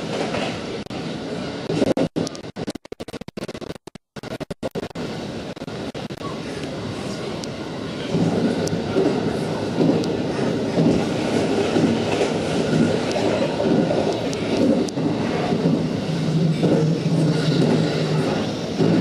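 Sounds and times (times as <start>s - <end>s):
train wheels rumbling on rail: 0.0s - 2.7s, 4.8s - 19.0s.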